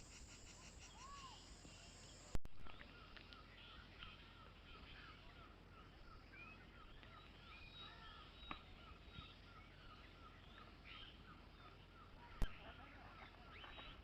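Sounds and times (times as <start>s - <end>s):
bird chirping: 0.0s - 14.0s
birds calling: 0.0s - 14.0s.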